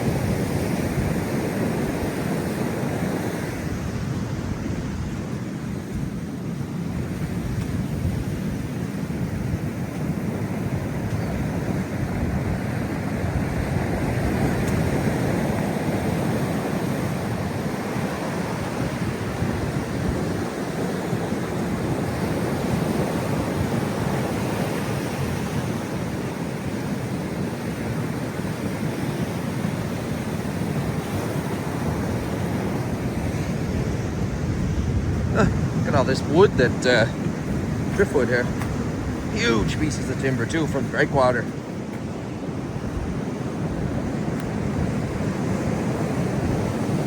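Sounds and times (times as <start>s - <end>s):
ocean surf washing ashore: 0.0s - 47.0s
wind buffeting microphone: 0.0s - 47.0s.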